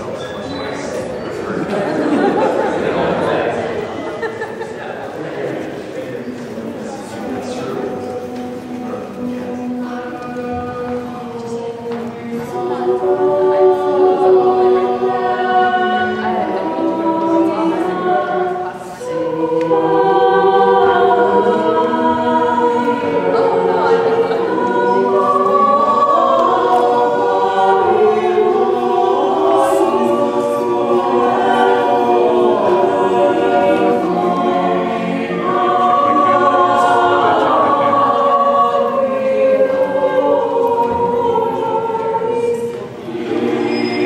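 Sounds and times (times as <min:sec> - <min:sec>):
choir singing a cappella: 0:00.0 - 0:44.0.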